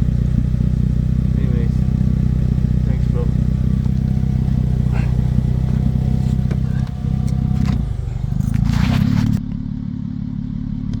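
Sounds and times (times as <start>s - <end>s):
engine with pulsing exhaust: 0.0s - 11.0s.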